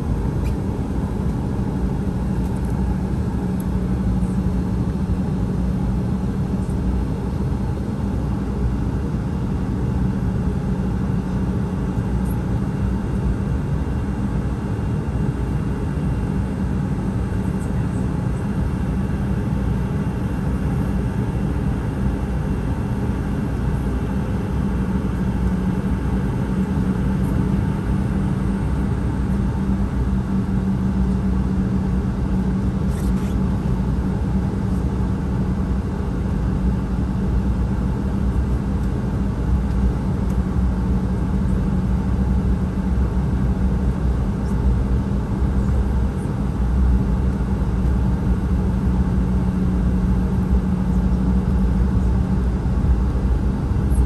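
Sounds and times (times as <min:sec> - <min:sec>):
jet engines rumbling at taxi: 0:00.0 - 0:54.0.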